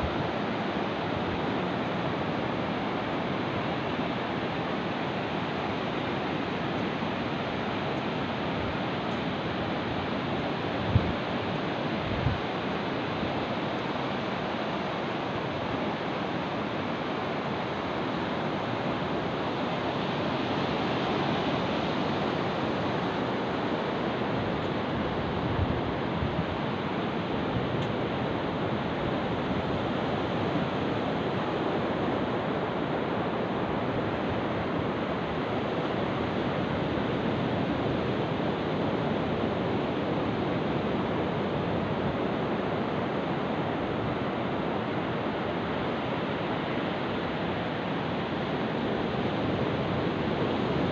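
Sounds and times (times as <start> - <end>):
surf washing up beach: 0.0 - 50.9.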